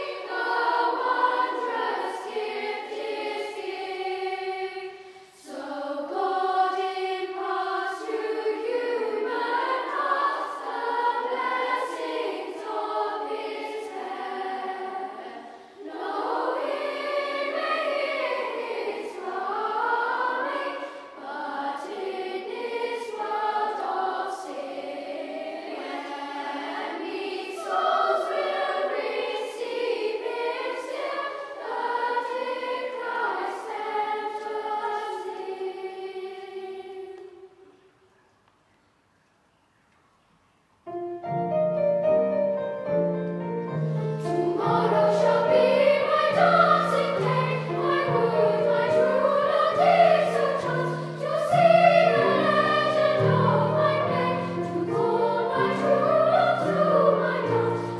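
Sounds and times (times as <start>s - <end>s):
children's choir singing a carol: 0.0s - 38.1s, 43.0s - 57.9s.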